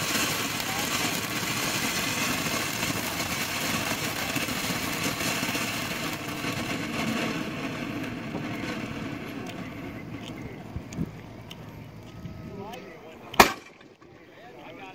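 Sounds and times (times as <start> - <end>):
firework fountain hissing: 0.0 - 14.9.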